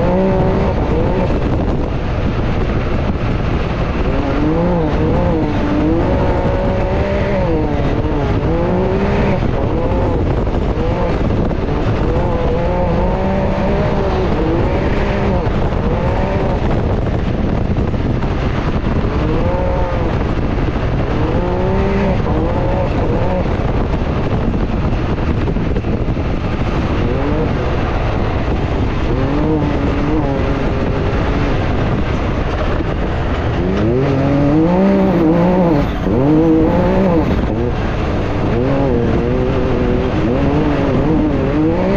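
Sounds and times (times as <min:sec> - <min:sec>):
engine revving: 0:00.0 - 0:41.9
tyre and chassis noise: 0:00.0 - 0:41.9.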